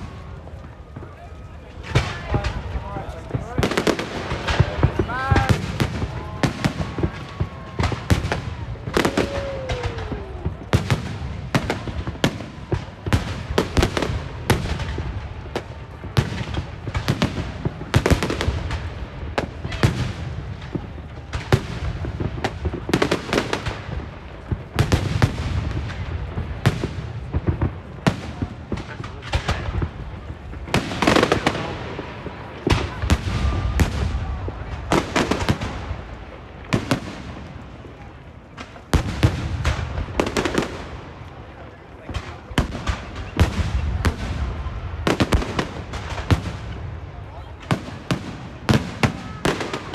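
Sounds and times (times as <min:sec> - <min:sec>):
firecrackers banging: 0:00.0 - 0:49.9.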